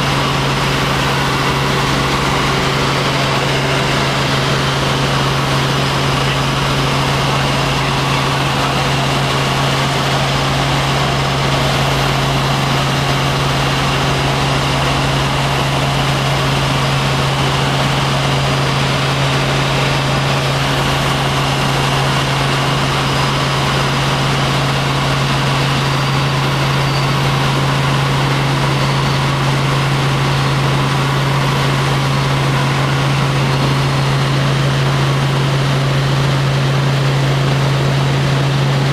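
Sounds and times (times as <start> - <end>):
helicopter droning: 0.0 - 38.9.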